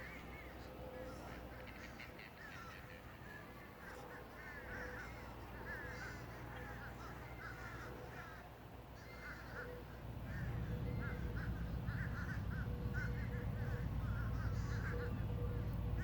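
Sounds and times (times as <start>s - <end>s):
crows cawing: 0.0s - 16.0s.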